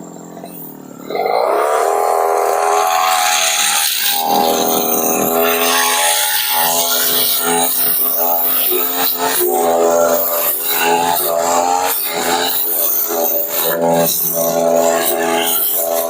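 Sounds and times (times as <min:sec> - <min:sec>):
brush cutter engine revving: 0:00.0 - 0:16.0
cutter slashing through grass: 0:01.0 - 0:16.0.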